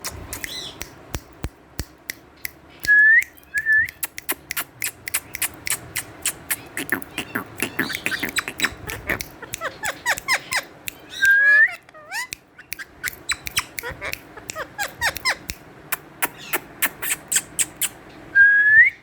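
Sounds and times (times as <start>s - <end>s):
parrot chattering chirps: 0.0s - 1.0s, 2.2s - 18.1s
parrot clicking: 0.0s - 18.0s.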